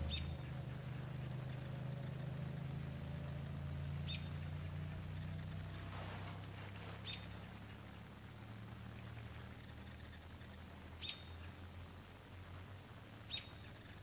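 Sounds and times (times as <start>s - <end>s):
distant engine droning: 0.0s - 14.0s.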